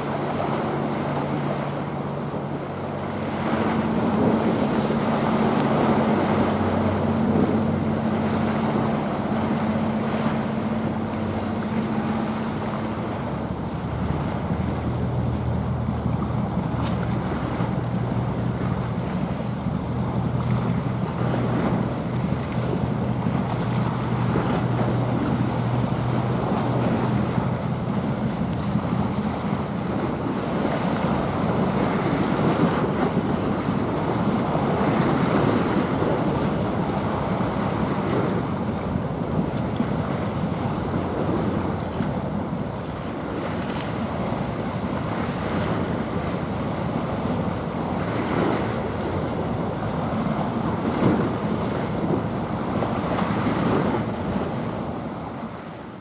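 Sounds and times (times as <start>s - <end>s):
choppy sea water: 0.0s - 56.0s
wind buffeting microphone: 0.0s - 56.0s.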